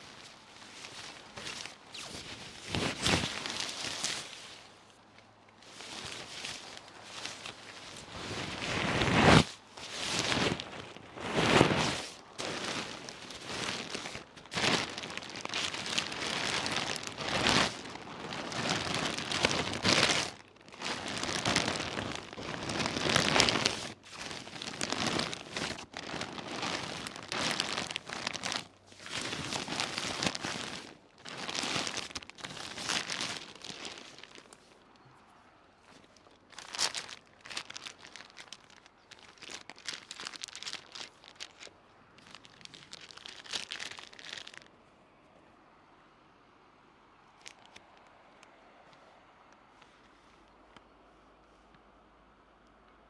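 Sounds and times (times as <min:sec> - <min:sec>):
material rustling and crinkling: 0:00.0 - 0:35.1, 0:35.8 - 0:44.7, 0:47.3 - 0:48.2.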